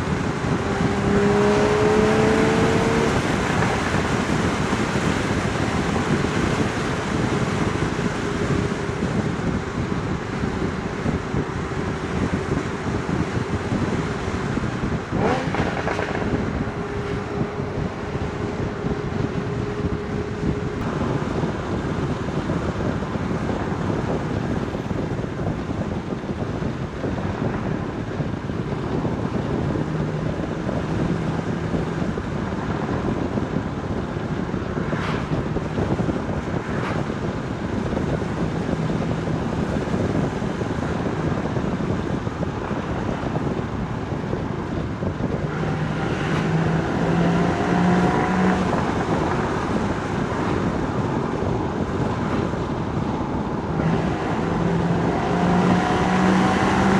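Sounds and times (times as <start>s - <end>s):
car exhaust on the move: 0.0s - 56.9s
road noise: 0.0s - 56.9s
wind noise: 0.0s - 56.9s.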